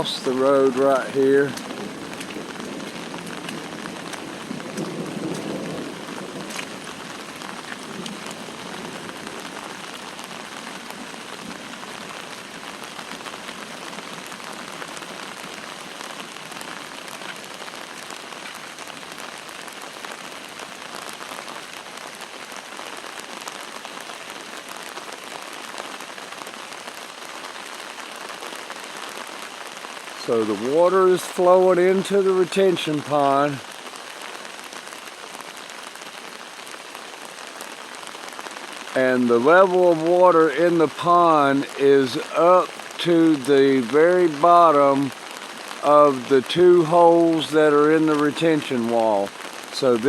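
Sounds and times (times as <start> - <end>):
steady rain pouring: 0.0 - 50.0.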